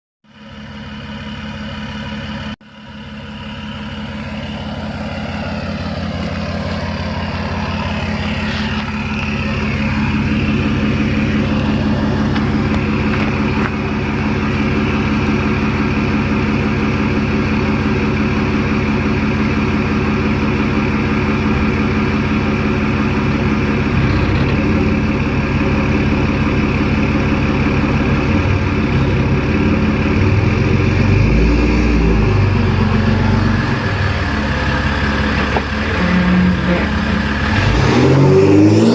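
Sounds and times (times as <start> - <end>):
diesel engine through loud exhaust: 0.2 - 38.9.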